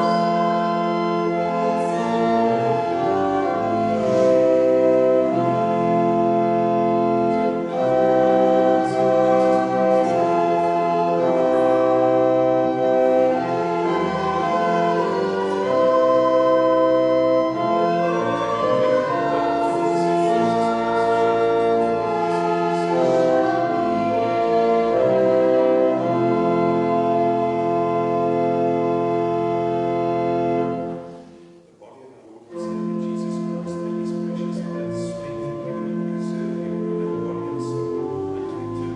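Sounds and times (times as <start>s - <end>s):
organ playing sustained chords: 0.0s - 38.9s.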